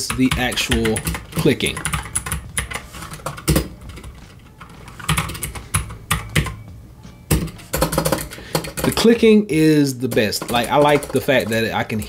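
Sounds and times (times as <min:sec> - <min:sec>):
clicky mechanical keyboard typing: 0:00.0 - 0:06.6, 0:07.3 - 0:09.2, 0:10.1 - 0:12.0.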